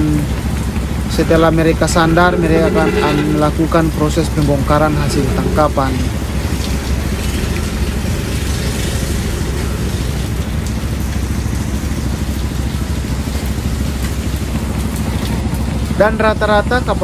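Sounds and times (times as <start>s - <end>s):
boat engine droning: 0.0s - 17.0s
propeller wash churning water: 0.0s - 17.0s.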